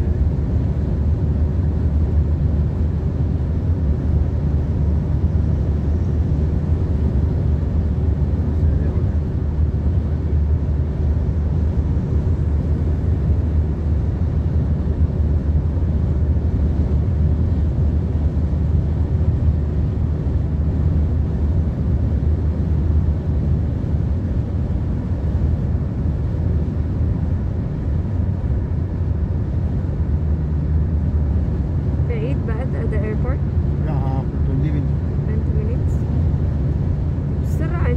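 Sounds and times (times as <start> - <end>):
car interior road rumble: 0.0 - 37.9.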